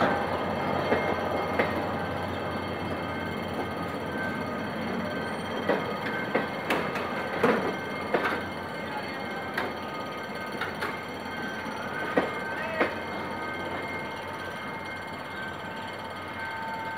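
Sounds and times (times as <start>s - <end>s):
train rolling rumble: 0.0s - 16.9s
train wheels clacking on track: 0.0s - 16.9s.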